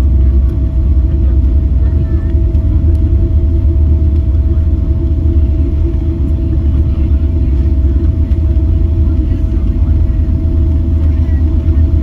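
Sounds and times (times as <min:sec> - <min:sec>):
aircraft engines and gear rumble: 0:00.0 - 0:12.0.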